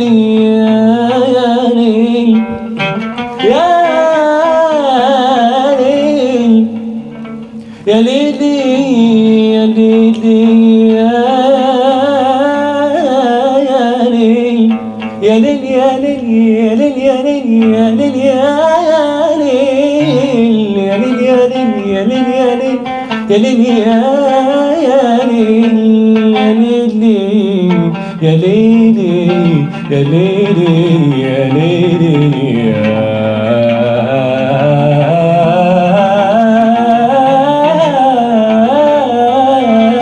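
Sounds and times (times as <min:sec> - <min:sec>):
instrumental accompaniment: 0:00.0 - 0:40.0
man singing into a microphone: 0:00.0 - 0:40.0.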